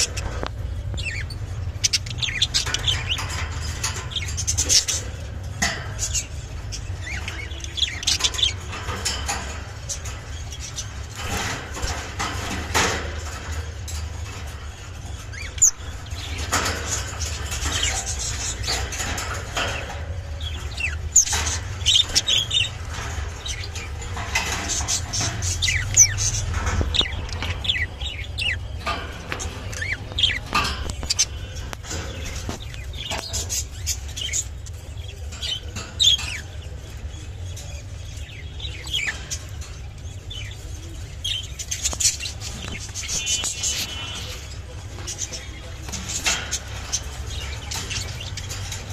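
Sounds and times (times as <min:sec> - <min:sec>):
budgerigars chirping: 0:00.0 - 0:48.9.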